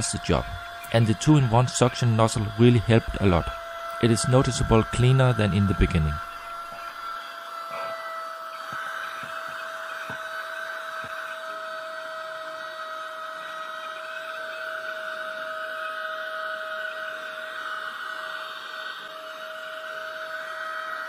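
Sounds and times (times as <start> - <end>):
handheld vacuum cleaner whine: 0.0 - 21.0.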